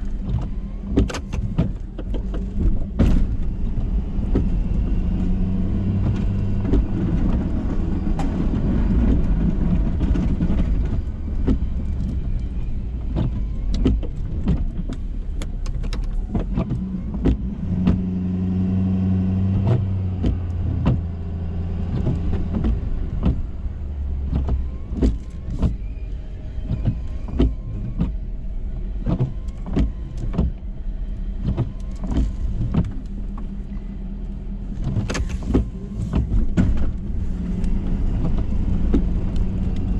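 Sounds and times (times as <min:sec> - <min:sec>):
pickup engine running: 0:00.0 - 0:39.9.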